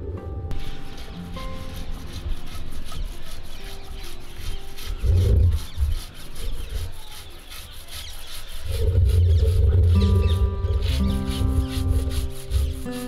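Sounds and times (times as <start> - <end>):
stone grinding on stone: 0.5 - 13.0.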